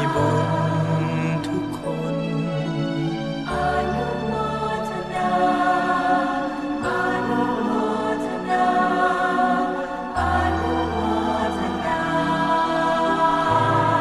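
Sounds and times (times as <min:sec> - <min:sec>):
devotional music with choir-like chords: 0:00.0 - 0:14.0.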